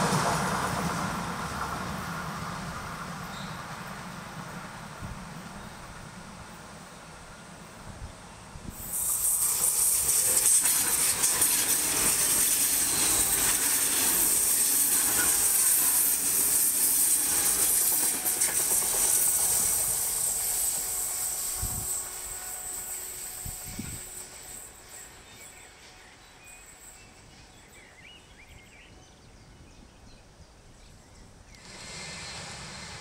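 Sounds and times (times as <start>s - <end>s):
train passing at speed: 0.0s - 33.0s
high hiss: 2.2s - 27.4s, 31.5s - 33.0s.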